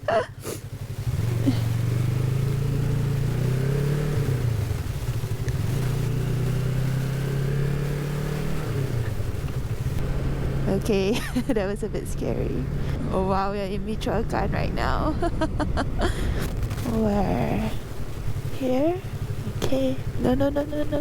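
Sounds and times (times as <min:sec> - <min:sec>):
motorcycle engine pulling away: 0:00.1 - 0:21.0.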